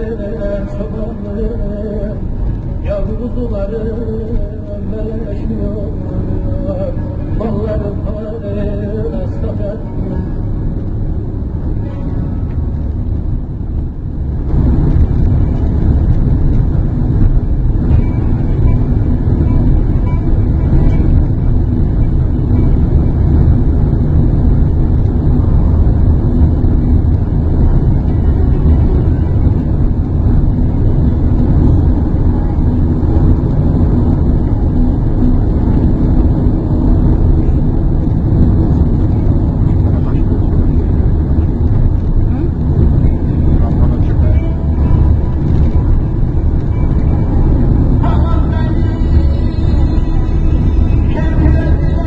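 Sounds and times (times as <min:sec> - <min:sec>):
car road rumble from inside: 0:00.0 - 0:52.0.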